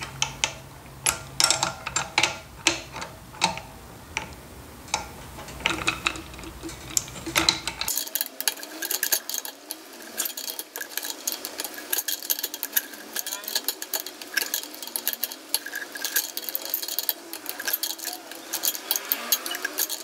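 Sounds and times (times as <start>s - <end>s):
spanners clicking on metal: 0.0s - 20.0s.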